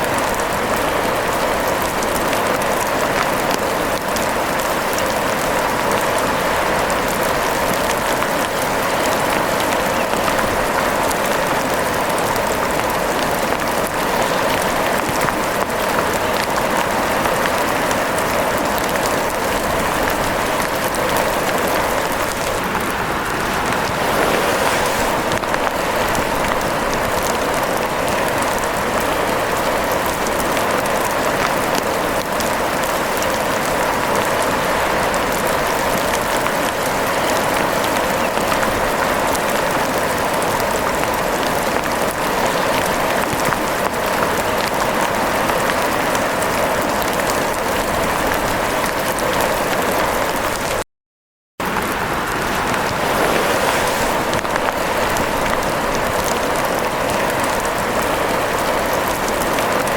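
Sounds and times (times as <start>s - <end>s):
rain pattering: 0.0s - 50.8s, 51.6s - 59.9s.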